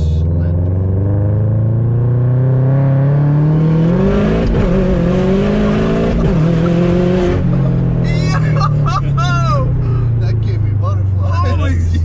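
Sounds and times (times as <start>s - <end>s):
car engine under full throttle: 0.0s - 12.0s.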